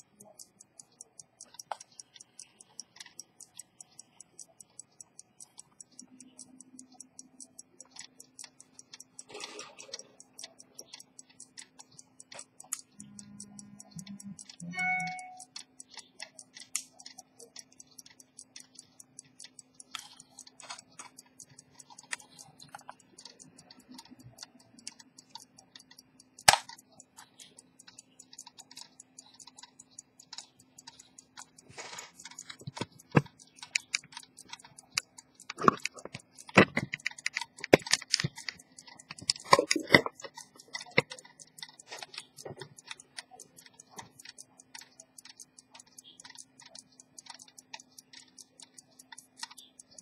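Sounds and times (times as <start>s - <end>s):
pocket watch ticking: 0.0s - 50.0s.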